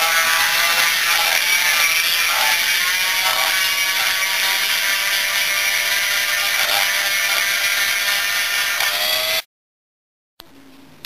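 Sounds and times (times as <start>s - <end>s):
rotary tool grinding metal: 0.0s - 9.5s.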